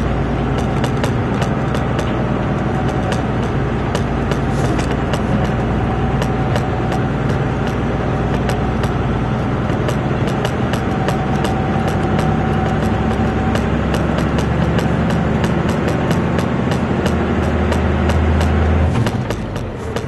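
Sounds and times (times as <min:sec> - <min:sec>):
diesel truck engine running: 0:00.0 - 0:20.0
truck rattling on rough track: 0:00.0 - 0:20.0.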